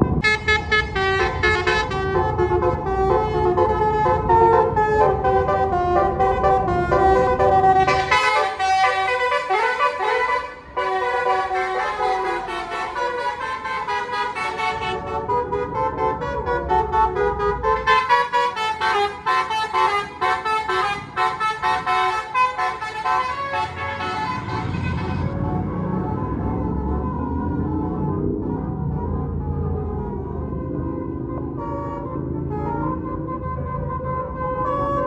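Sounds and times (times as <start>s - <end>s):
bus musical horn playing a tune: 0.0s - 27.6s, 31.4s - 35.0s
bus engine rumble: 0.0s - 35.0s.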